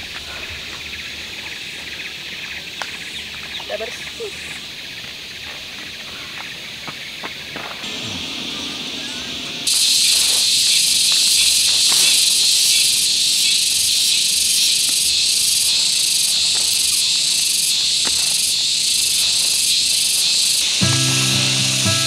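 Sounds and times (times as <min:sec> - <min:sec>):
shrill pulsing insect chorus: 0:00.0 - 0:22.0.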